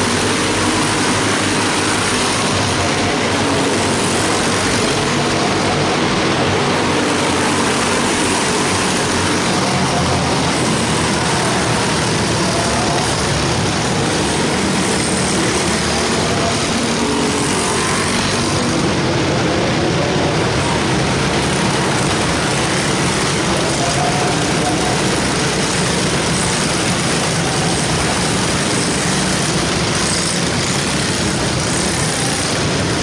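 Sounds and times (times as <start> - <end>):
small race car engines droning: 0.0 - 33.0.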